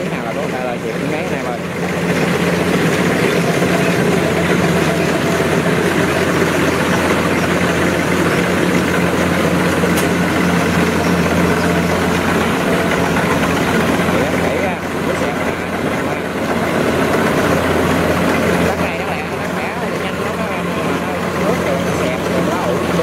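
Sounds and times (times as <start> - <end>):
cutting and threshing machinery: 0.0 - 23.0
diesel engine hum: 0.0 - 23.0.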